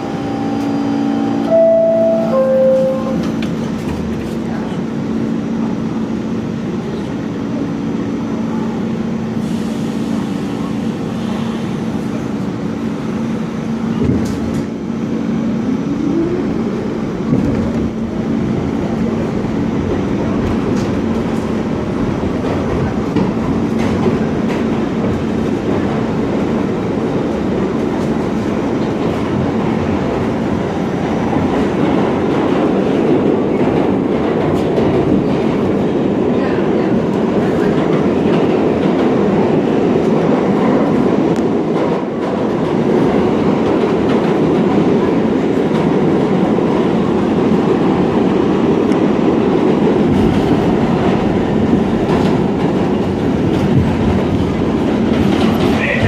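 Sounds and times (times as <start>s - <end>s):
train motor hum: 0.0s - 56.0s
train running noise: 0.0s - 56.0s.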